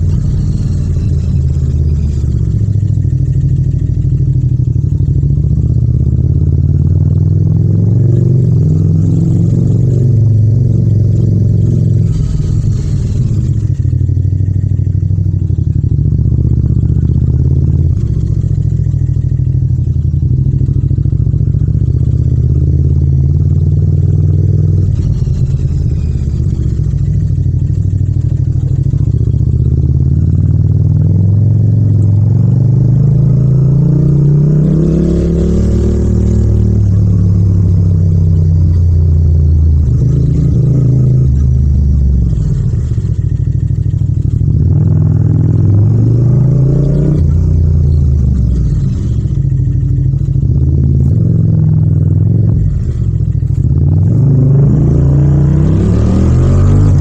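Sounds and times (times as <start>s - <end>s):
motorcycle engine and exhaust: 0.0s - 57.0s.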